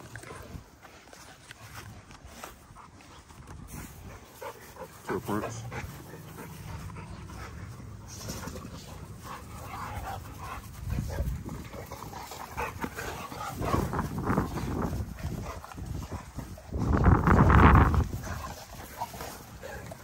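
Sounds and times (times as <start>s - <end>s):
dogs breathing and growling: 0.0s - 20.0s.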